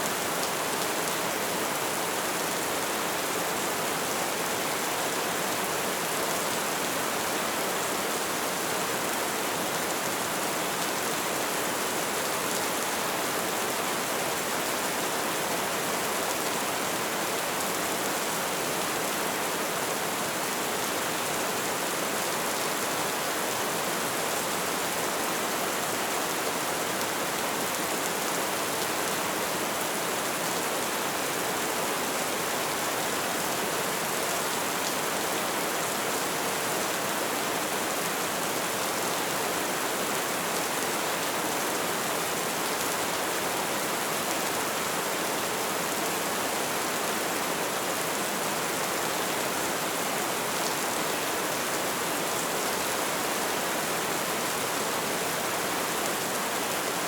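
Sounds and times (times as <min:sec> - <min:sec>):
light rain falling: 0:00.0 - 0:57.0.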